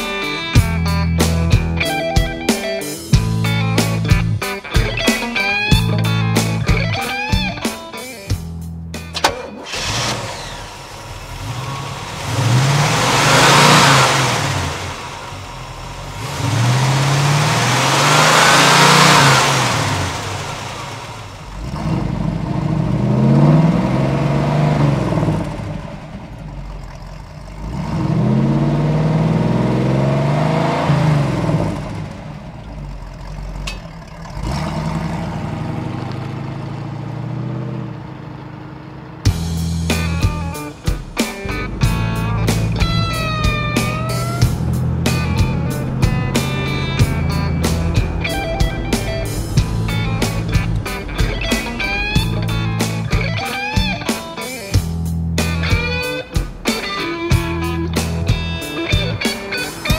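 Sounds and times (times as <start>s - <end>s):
car engine revving and accelerating: 9.1s - 59.9s.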